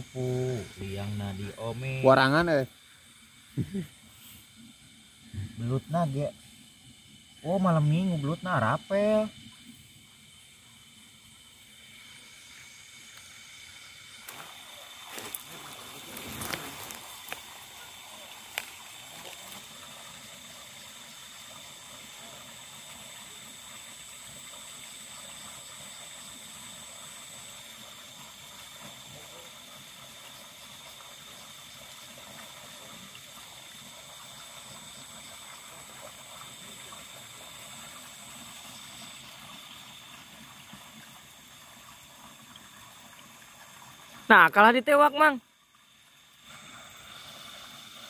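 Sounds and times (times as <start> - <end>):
water running in a ditch: 0.0 - 48.0.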